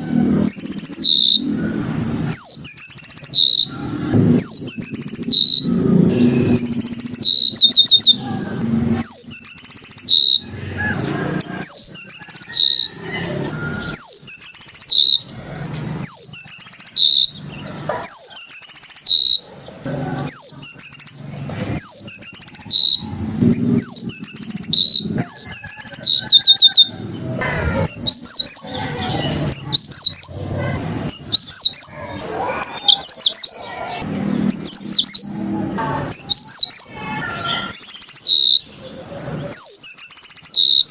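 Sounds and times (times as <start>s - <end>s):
canary singing trills and whistles: 0.0s - 35.4s, 36.0s - 40.9s.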